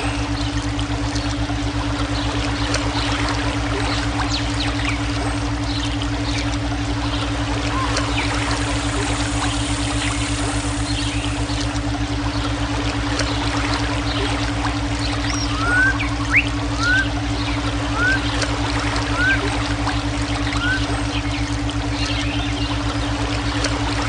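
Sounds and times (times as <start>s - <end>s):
flowing water: 0.0s - 24.0s
low pulsing electronic tone: 0.0s - 24.0s.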